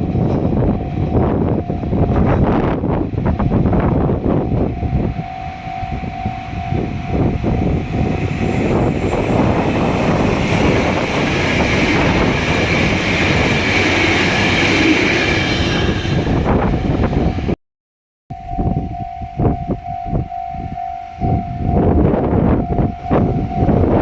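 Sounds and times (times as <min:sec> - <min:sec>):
diesel train passing: 0:00.0 - 0:17.6, 0:18.4 - 0:24.0
level crossing warning bell: 0:00.1 - 0:02.4, 0:03.4 - 0:14.7, 0:18.3 - 0:24.0.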